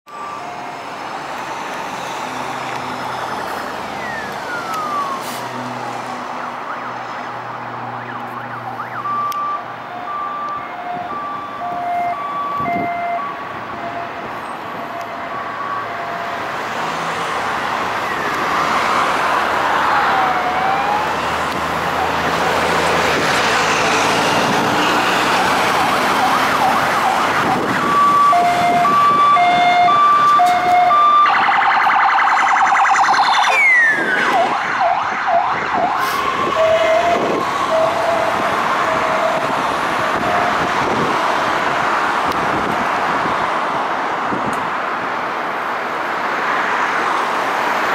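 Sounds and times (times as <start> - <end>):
road traffic: 0.0 - 47.9
police siren wailing: 0.1 - 43.7.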